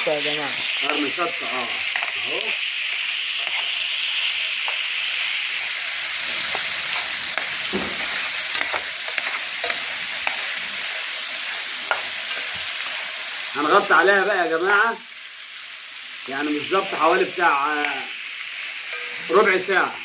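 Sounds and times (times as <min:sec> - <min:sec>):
birds sizzling in a pan: 0:00.0 - 0:20.0
crackles and spatters: 0:00.0 - 0:20.0.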